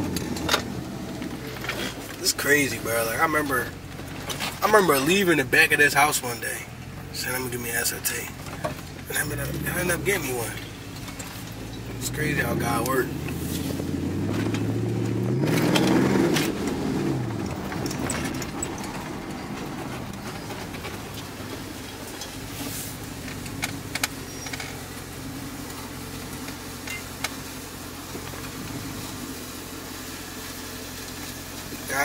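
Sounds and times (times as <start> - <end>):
car engine revving and droning: 0.0 - 5.8, 8.4 - 32.0.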